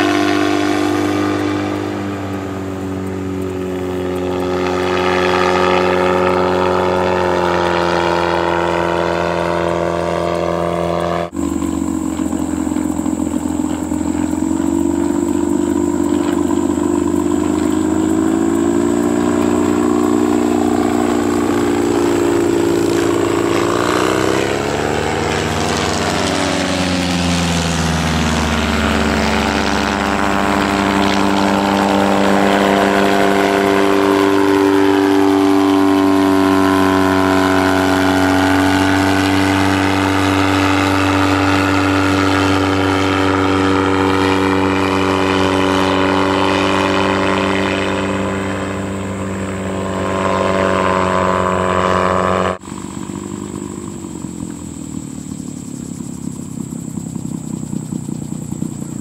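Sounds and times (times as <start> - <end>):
gyrocopter engine and propeller: 0.0 - 59.0.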